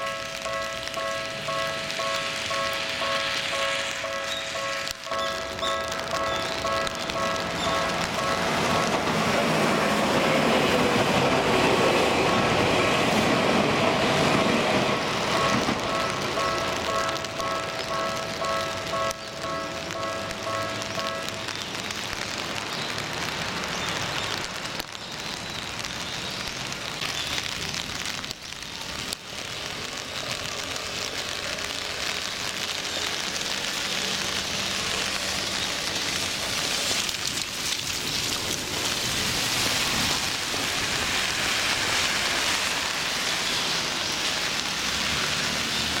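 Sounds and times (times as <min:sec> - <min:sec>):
steady rain: 0:00.0 - 0:46.0
traffic on wet road: 0:00.0 - 0:46.0.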